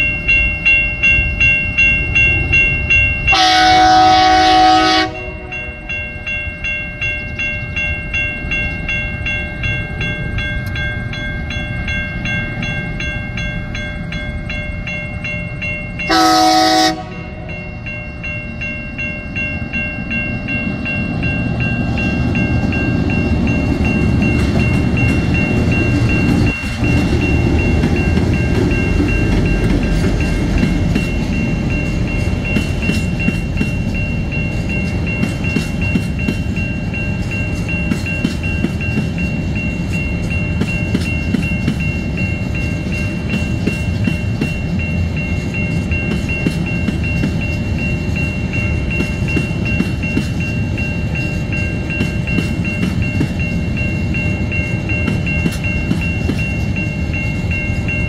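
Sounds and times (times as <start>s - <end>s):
level crossing bell ringing: 0.0s - 58.0s
train wagons rumbling past: 0.0s - 58.0s.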